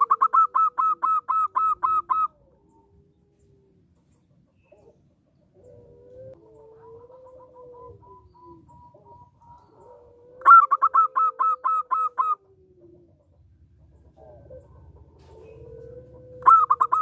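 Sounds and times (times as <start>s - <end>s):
dove cooing: 0.0s - 3.8s, 4.5s - 17.0s.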